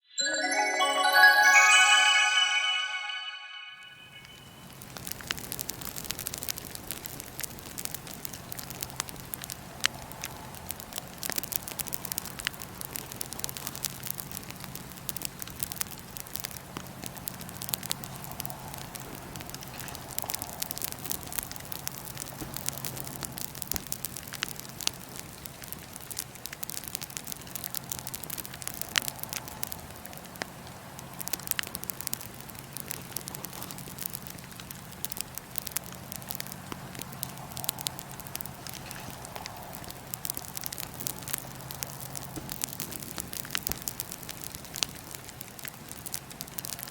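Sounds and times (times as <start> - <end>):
fire popping and snapping: 6.0 - 46.9
wood fire crackling: 6.0 - 46.9.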